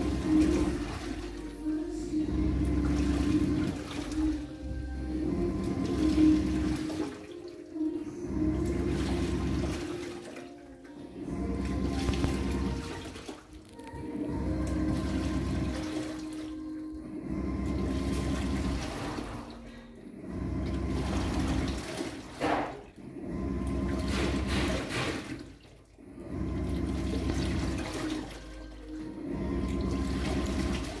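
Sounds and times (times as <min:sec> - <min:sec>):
washing machine motor humming: 0:00.0 - 0:31.0
water sloshing: 0:00.0 - 0:31.0.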